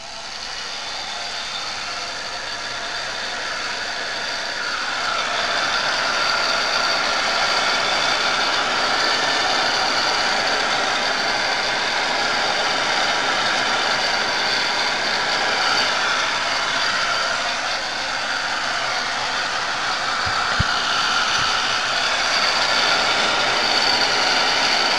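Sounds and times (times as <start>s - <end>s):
electric blower whirring: 0.0s - 24.9s.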